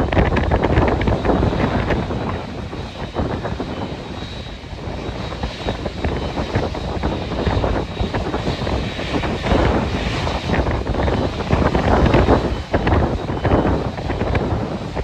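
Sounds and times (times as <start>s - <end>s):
airliner engines running: 0.0s - 15.0s
wind buffeting microphone: 0.0s - 15.0s.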